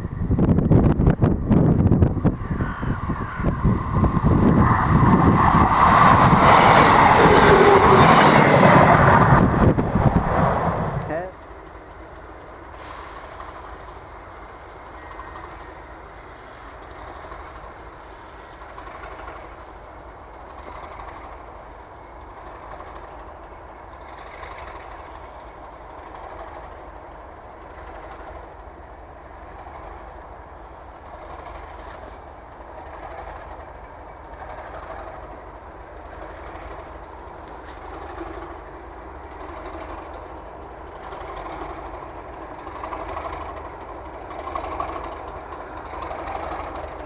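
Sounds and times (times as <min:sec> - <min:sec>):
diesel locomotives rumbling: 0:00.0 - 0:47.0.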